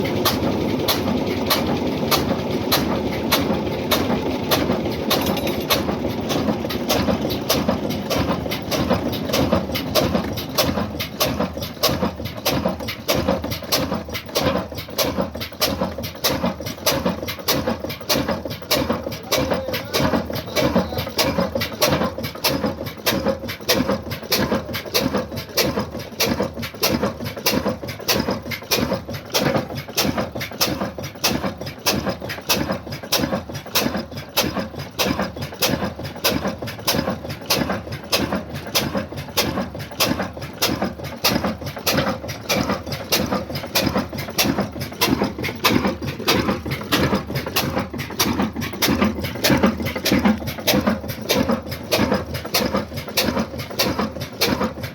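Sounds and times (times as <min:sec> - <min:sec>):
diesel engine knocking steadily: 0:00.0 - 0:54.9.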